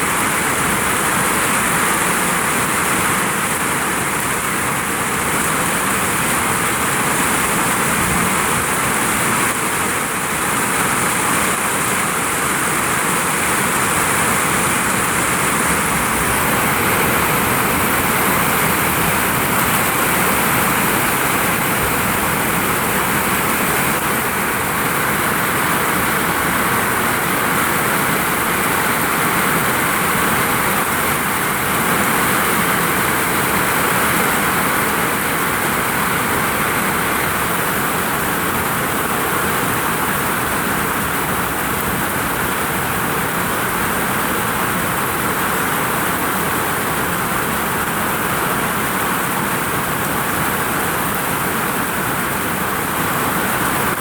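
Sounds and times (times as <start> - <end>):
heavy rain on a roof: 0.0 - 54.0
strong wind: 0.0 - 54.0.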